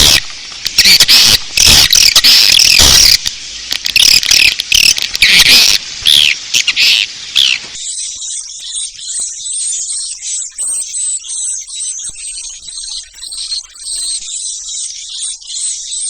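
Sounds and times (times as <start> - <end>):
swiftlet chirps and twitters: 0.0 - 16.0.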